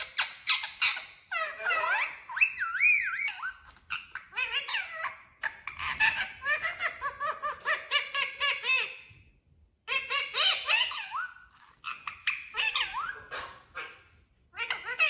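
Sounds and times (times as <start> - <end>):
parrot calling and chattering: 0.0 - 15.0.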